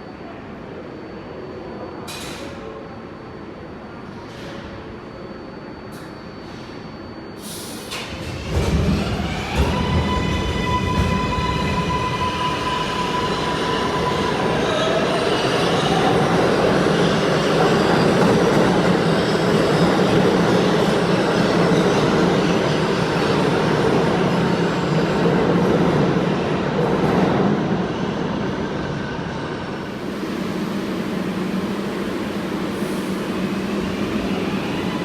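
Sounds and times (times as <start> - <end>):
subway train running: 0.0 - 35.0.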